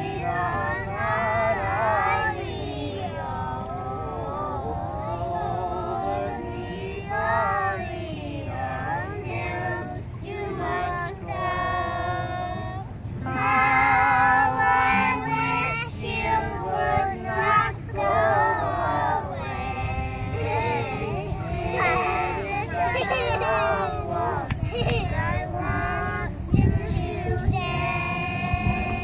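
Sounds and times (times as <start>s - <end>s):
children singing: 0.0s - 29.0s.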